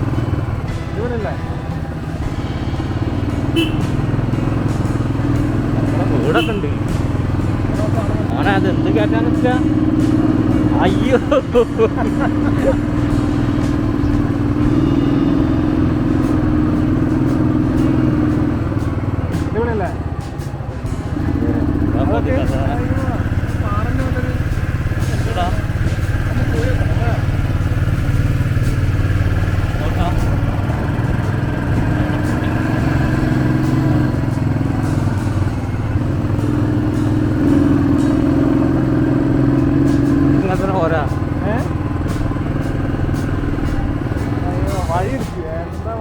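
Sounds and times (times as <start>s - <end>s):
motorcycle engine under load: 0.0s - 46.0s.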